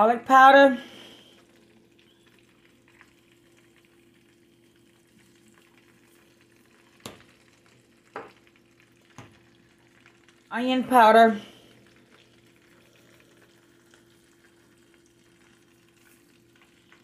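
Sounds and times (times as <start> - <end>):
butter sizzling in a frying pan: 0.0 - 17.0.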